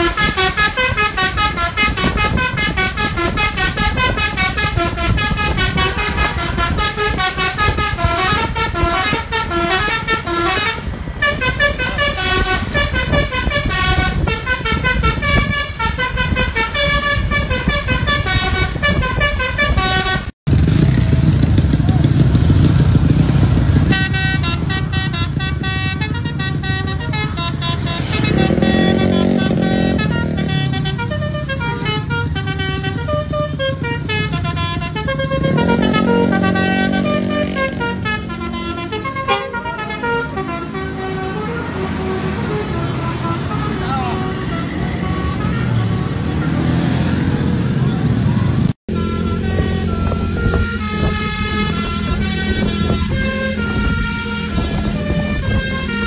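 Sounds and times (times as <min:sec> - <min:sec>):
multi-tone bus horn melody: 0:00.0 - 0:20.4, 0:23.5 - 0:56.0.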